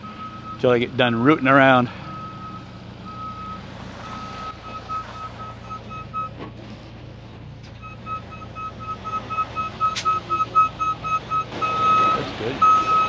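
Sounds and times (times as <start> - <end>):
reversing alarm beeping: 0.0 - 6.4, 7.8 - 13.0
diesel engine running: 0.0 - 13.0.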